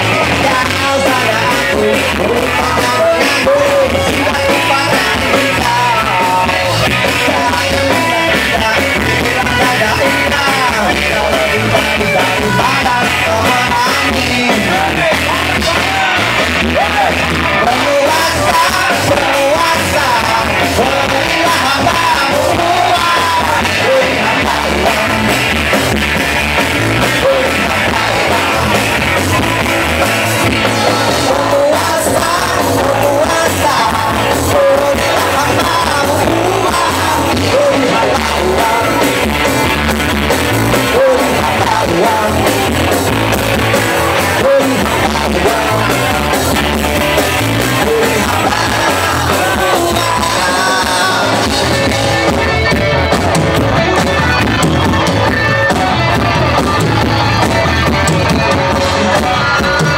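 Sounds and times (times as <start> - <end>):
live rock band: 0.0 - 59.9
person singing lead vocal: 0.0 - 59.9.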